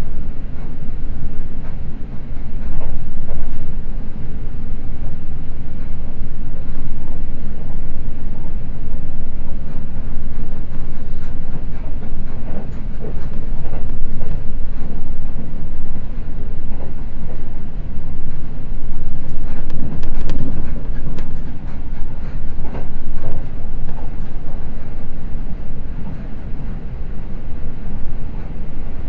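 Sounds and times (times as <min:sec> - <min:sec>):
track clacks: 0:00.0 - 0:29.0
train wheels rumbling on track: 0:00.0 - 0:29.0.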